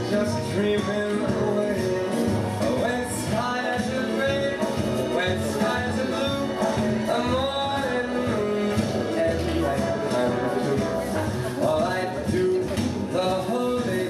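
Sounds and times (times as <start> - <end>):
music with singing: 0.0 - 14.0.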